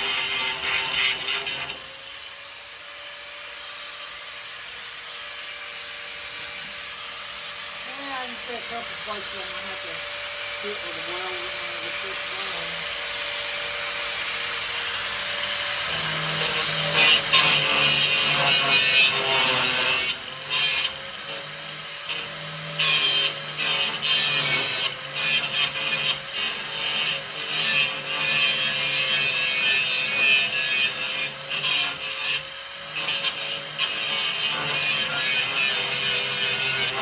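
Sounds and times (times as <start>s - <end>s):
grinder motor running: 0.0s - 37.0s
grinding hiss on steel: 0.0s - 37.0s.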